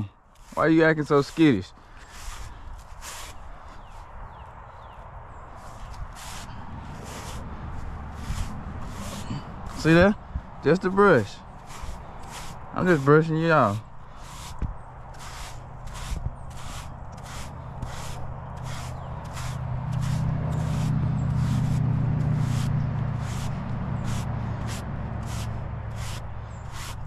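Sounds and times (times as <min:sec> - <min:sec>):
brush strokes on horse coat: 0:00.0 - 0:27.0.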